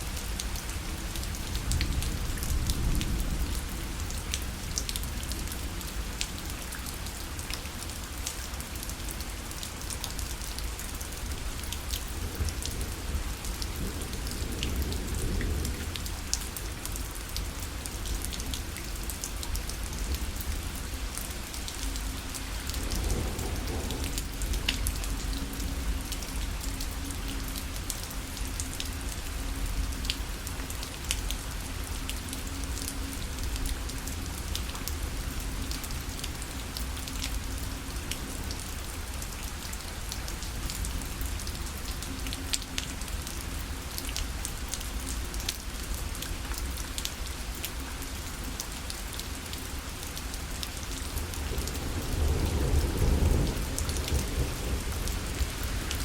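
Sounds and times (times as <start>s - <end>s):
rain pattering on a parasol: 0.0s - 56.0s.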